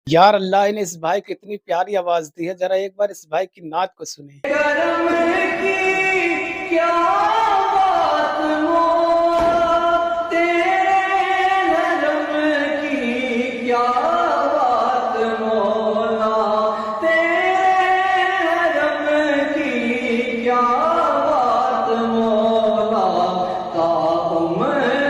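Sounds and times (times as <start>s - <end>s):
man singing devotional song: 0.1s - 25.0s.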